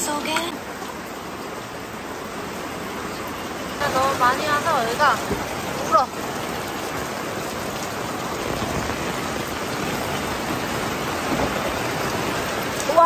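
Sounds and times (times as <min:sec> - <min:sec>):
heavy rain on a tarp: 0:00.0 - 0:13.0.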